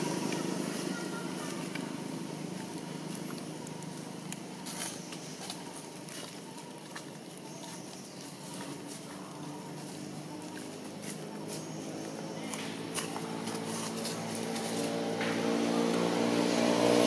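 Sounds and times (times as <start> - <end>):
low background hum: 0.0 - 16.6
dry leaves crackling: 0.0 - 17.0.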